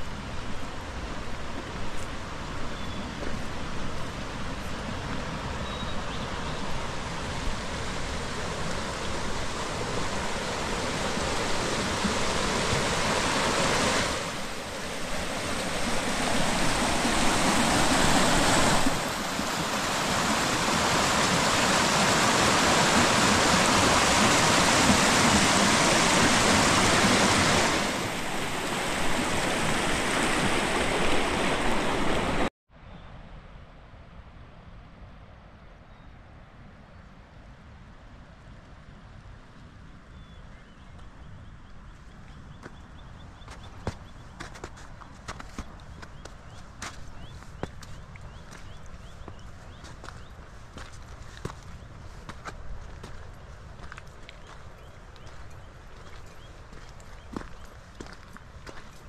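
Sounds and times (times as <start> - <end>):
rushing water: 0.0 - 32.5, 42.3 - 59.0.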